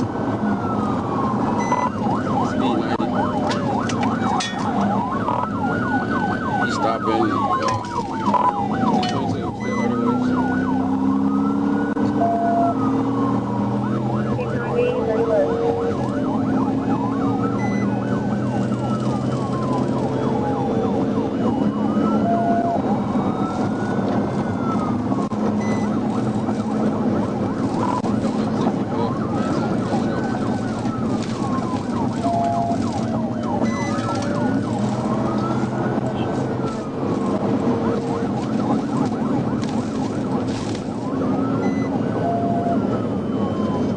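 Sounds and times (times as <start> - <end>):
car engine and road noise: 0.0 - 43.9
police siren wailing: 0.0 - 43.9.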